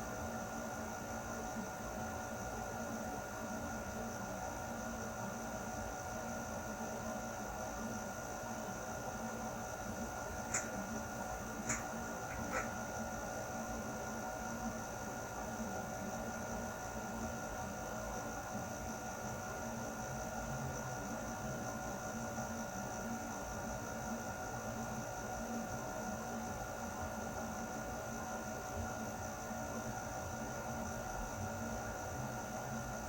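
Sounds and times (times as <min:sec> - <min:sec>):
air conditioner running: 0:00.0 - 0:33.0.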